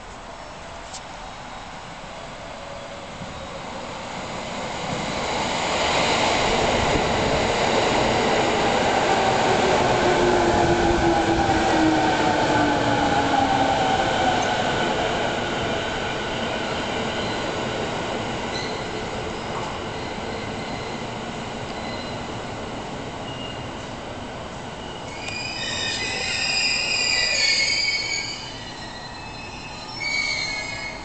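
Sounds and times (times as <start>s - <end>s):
electric train rail noise: 4.1s - 31.0s.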